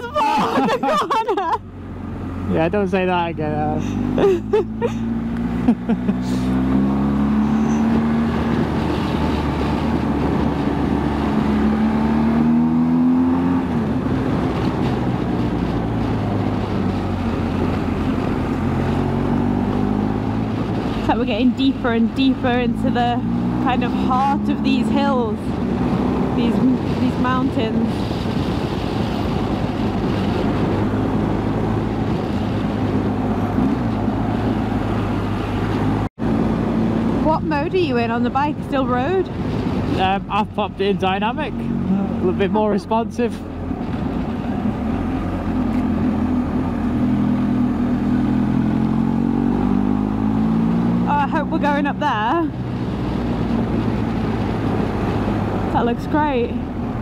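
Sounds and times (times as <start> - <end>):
motorcycle engine cruising: 0.0 - 57.0
wind rushing over microphone: 4.0 - 57.0.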